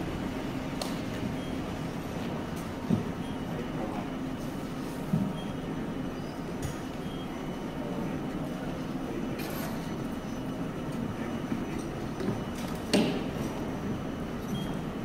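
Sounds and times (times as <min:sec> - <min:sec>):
tram equipment humming: 0:00.0 - 0:15.0.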